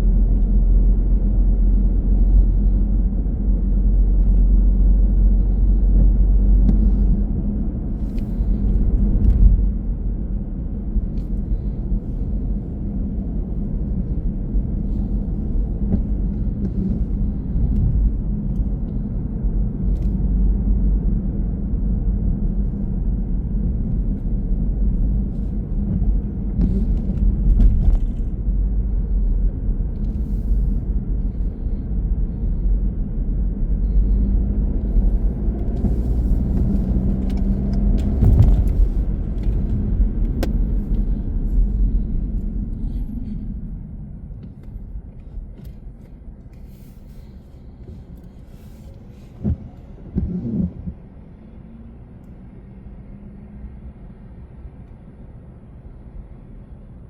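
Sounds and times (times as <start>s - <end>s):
car driving: 0.0s - 55.1s.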